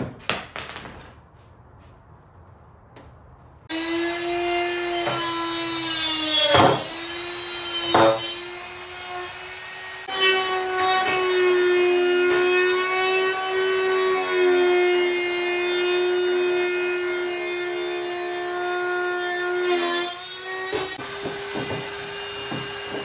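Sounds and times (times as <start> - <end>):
power tool cutting with high whine: 3.7 - 23.0.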